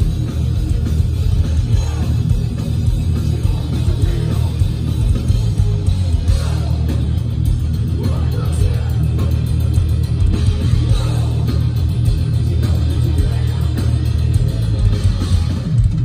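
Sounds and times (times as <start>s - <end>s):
bass and drums: 0.0s - 16.0s
distorted electric guitars: 0.0s - 16.0s
thrash metal band playing live: 0.0s - 16.0s.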